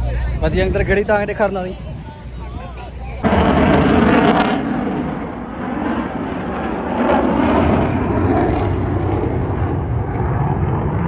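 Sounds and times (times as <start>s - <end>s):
airplane engine drone: 0.0s - 11.0s.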